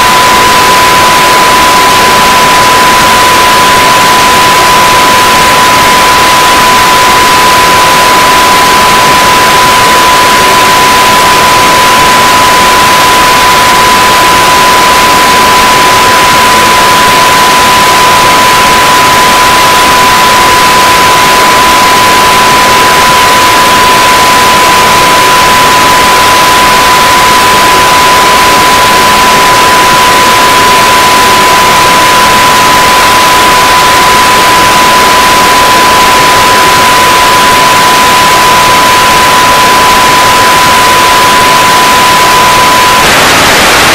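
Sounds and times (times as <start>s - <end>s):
steady high beep tone: 0.0s - 37.7s
loud static-like hiss: 6.4s - 43.9s.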